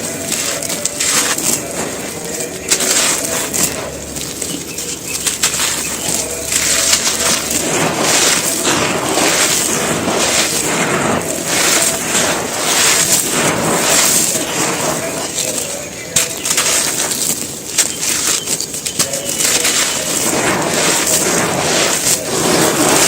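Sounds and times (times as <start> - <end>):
cement balls crushed by hand: 0.0 - 23.0.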